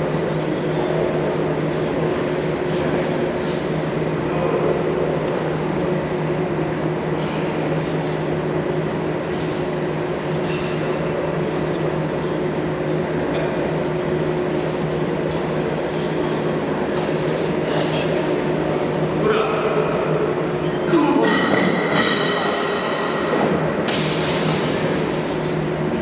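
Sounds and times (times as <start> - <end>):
droning hum: 0.0 - 26.0
large hall room noise: 0.0 - 26.0.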